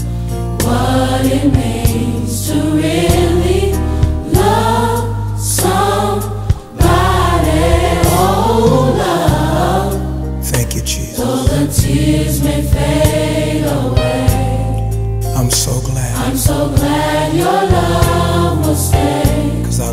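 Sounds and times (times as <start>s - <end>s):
choir singing: 0.6s - 14.9s, 16.0s - 19.9s
sustained low accompaniment: 1.4s - 19.9s.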